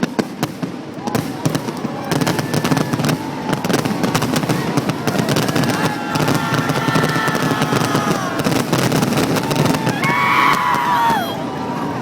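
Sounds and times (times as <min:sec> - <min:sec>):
fireworks crackling bangs: 0:00.0 - 0:11.5.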